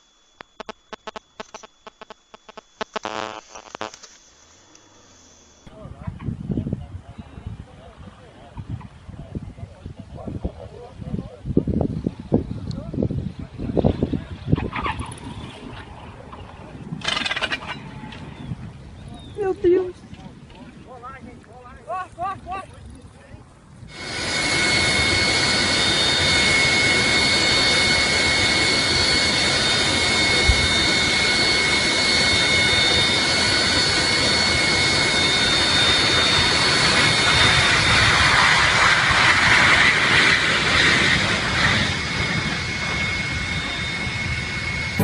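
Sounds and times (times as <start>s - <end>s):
jet engines roaring with turbine whine: 0.0s - 19.8s, 23.4s - 45.0s.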